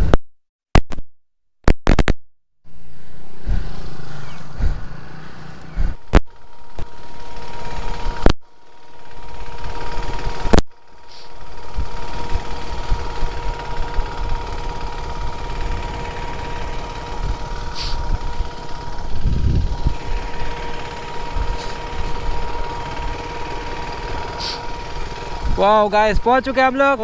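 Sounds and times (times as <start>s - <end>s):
motorcycle engine running: 2.7s - 27.0s.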